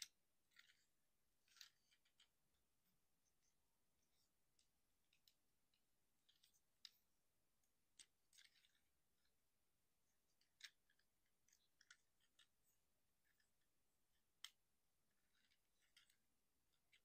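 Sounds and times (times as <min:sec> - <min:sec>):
plastic toy parts clicking: 0:00.0 - 0:02.4, 0:03.3 - 0:07.0, 0:07.6 - 0:09.3, 0:10.1 - 0:17.0.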